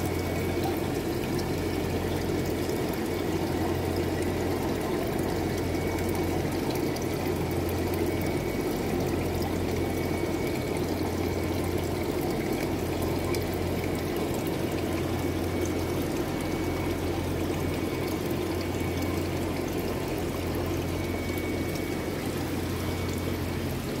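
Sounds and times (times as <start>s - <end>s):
constant low hum: 0.0s - 24.0s
water running and splashing: 0.0s - 24.0s.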